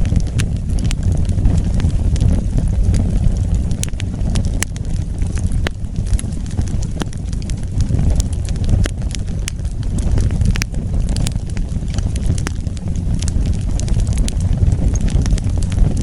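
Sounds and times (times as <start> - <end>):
fire crackles and pops: 0.0 - 16.0
fire rumbling: 0.0 - 16.0.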